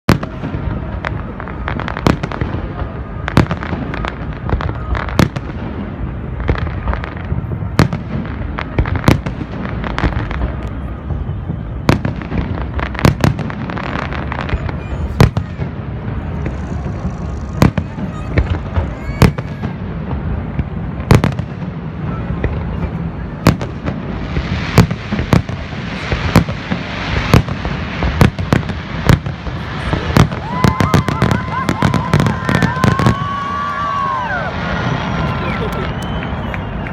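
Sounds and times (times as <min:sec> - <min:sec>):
firework bangs: 0:00.1 - 0:36.9
rumble and crackle of fireworks: 0:00.1 - 0:36.9.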